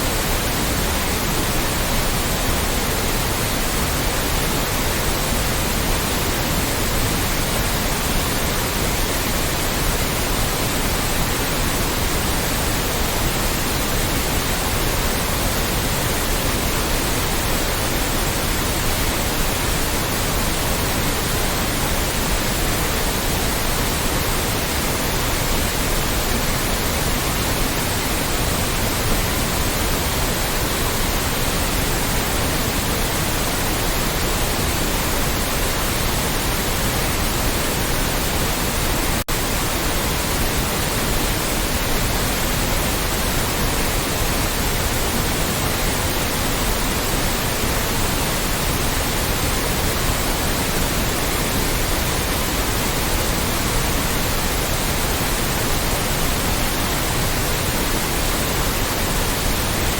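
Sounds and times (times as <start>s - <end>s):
loud white noise: 0.0s - 59.9s.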